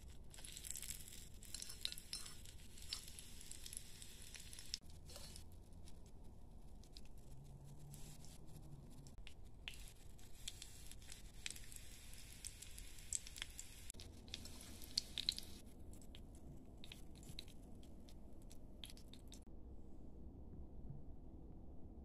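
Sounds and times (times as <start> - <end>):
hot oil sizzling and popping: 0.0 - 19.5.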